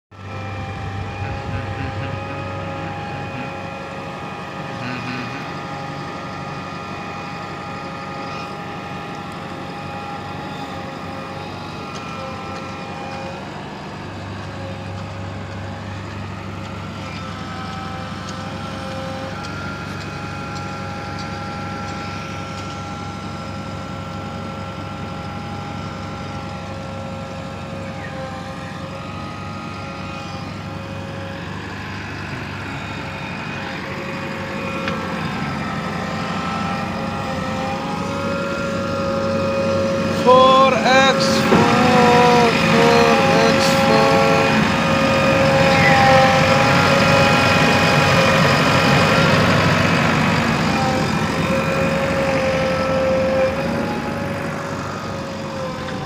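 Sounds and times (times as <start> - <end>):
backhoe diesel engine running: 0.1 - 56.0
engine whine: 0.1 - 56.0.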